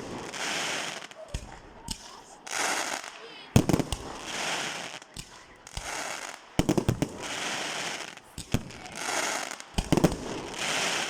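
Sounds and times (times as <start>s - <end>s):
fireworks bangs: 0.0s - 11.0s
fireworks hissing rush: 0.0s - 11.0s.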